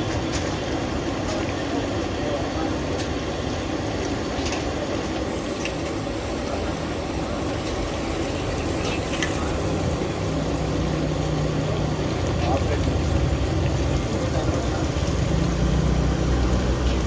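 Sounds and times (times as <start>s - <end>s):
low rumbling background noise: 0.0s - 17.0s
distant voices: 0.1s - 17.0s.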